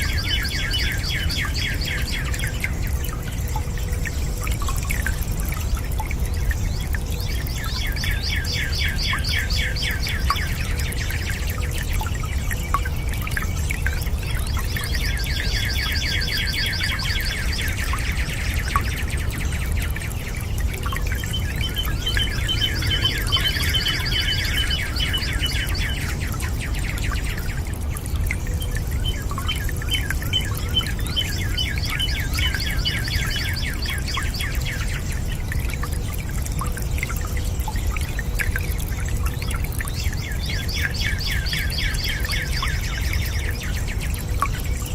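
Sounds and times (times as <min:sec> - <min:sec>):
birds singing trills: 0:00.0 - 0:44.9
running water: 0:00.0 - 0:44.9.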